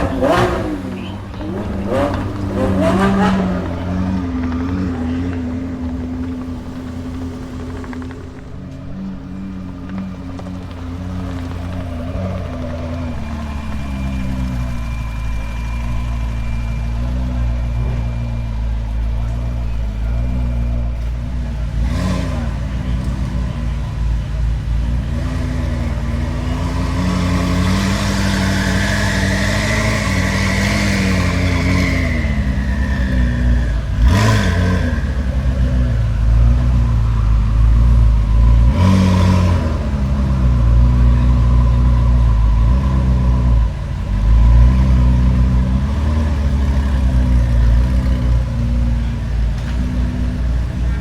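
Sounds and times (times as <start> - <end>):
car engine idling: 0.0 - 51.0
exhaust crack: 0.0 - 51.0.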